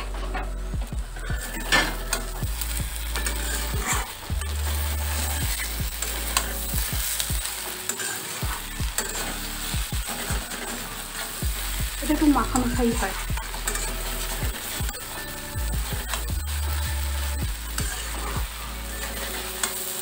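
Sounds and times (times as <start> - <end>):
soft sizzle: 0.0 - 20.0
spatula scraping a steel pan: 1.2 - 20.0.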